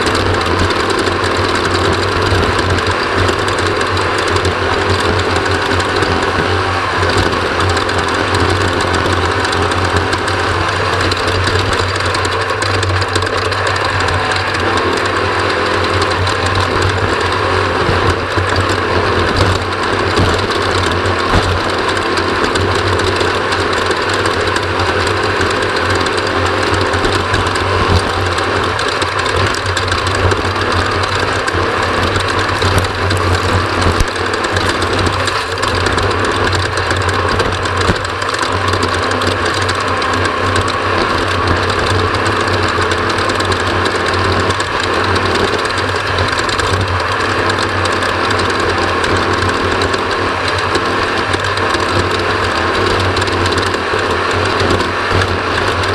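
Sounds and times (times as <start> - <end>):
race vehicle engine running: 0.0 - 55.9
road and chassis noise: 0.0 - 55.9.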